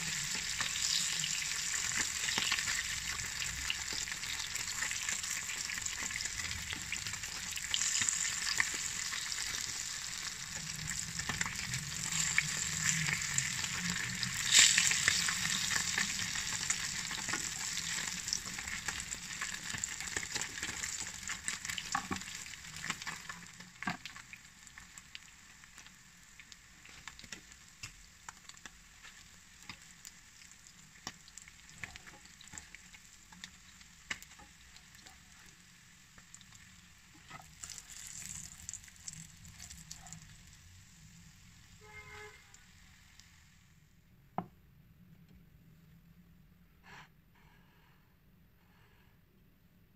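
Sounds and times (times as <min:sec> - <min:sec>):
fish sizzling in frying pan: 0:00.0 - 0:43.8.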